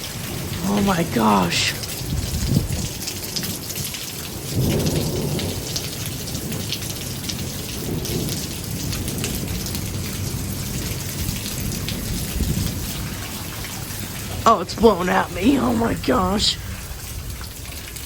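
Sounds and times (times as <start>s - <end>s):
heavy rain pouring: 0.0s - 18.0s
raindrops splattering: 0.0s - 18.0s
low thunder rumble: 0.1s - 3.7s, 4.3s - 18.0s.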